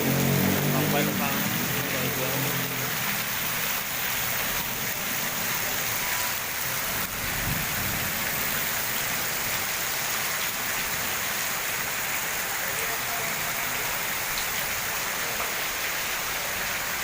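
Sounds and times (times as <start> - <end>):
heavy rain on roofs and street: 0.0 - 17.0.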